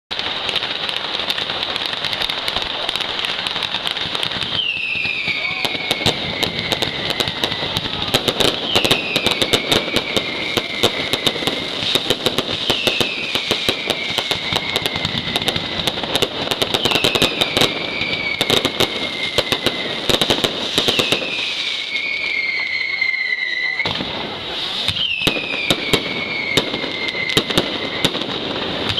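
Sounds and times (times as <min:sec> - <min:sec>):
fast firecracker bangs: 0:00.1 - 0:22.7, 0:23.7 - 0:28.9
falling firework whistle: 0:00.1 - 0:28.9.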